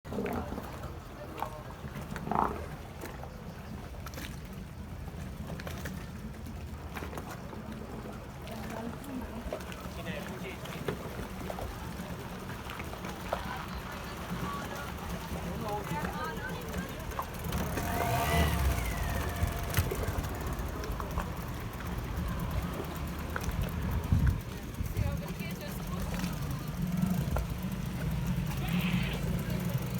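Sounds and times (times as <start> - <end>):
boat engine humming: 0.1 - 29.9.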